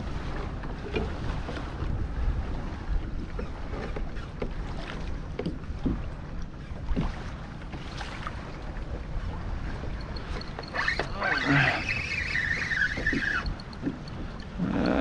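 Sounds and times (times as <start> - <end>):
waves slapping against kayak hull: 0.0 - 14.7
wind rumble on microphone: 0.0 - 15.0.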